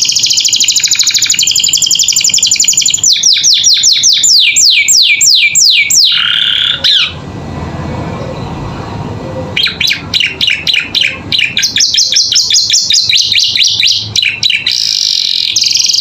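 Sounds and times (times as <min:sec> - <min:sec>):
canary singing: 0:00.0 - 0:07.3, 0:08.2 - 0:16.0.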